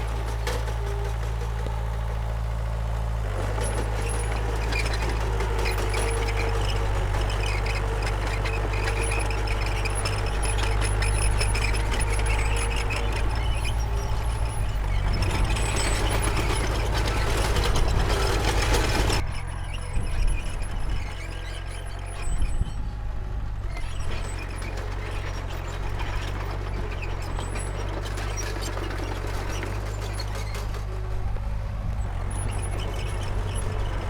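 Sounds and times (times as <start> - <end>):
metallic clattering and track squeals: 0.0 - 23.1, 23.7 - 34.0
bulldozer diesel engine running: 0.0 - 34.0.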